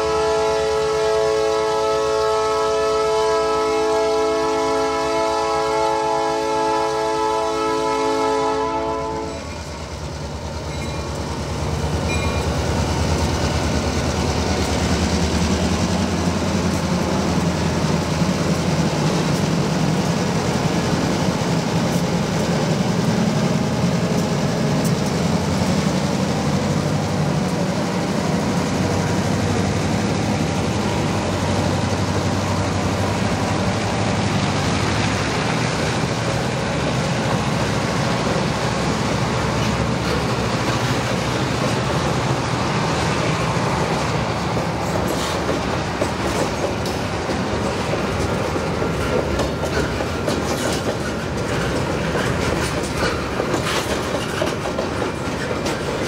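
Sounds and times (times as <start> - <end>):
diesel locomotive engine rumble: 0.0 - 56.0
rolling train wheels: 0.0 - 56.0.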